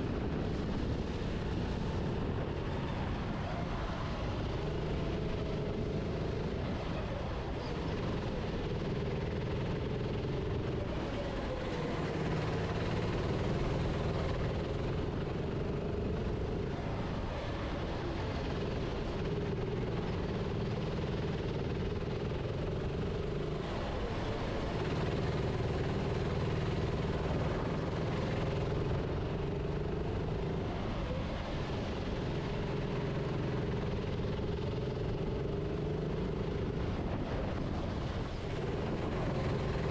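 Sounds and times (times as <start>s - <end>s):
kart engine running hard: 0.0s - 39.9s
steady rushing noise: 0.0s - 39.9s.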